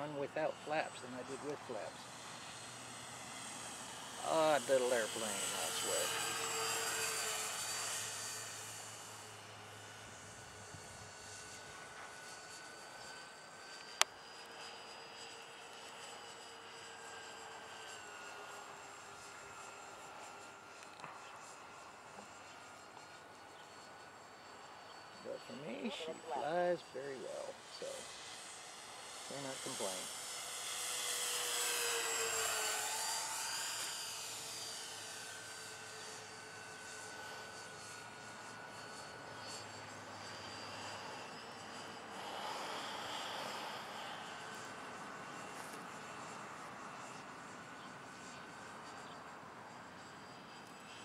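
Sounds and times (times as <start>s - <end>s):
model plane motors whining: 0.0s - 51.0s.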